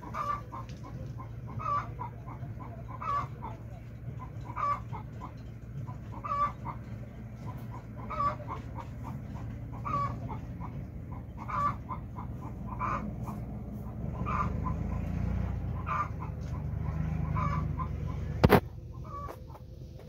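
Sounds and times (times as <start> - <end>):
chicken clucking: 0.0 - 20.0
steady low hum: 0.0 - 20.0.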